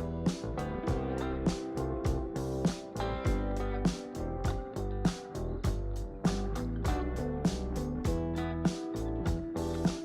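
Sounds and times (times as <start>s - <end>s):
drum beat: 0.0s - 10.0s.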